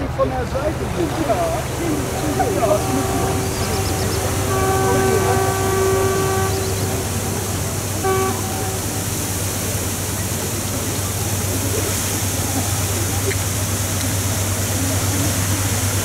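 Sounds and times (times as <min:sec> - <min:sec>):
low hum: 0:00.7 - 0:15.9
ship's horn blasts: 0:00.8 - 0:16.0.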